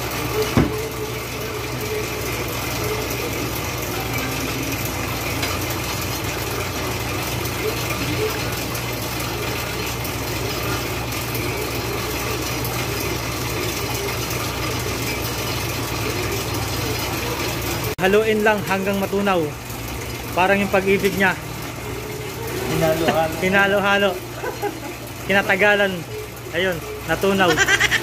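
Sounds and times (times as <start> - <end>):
machinery humming: 0.0 - 28.0.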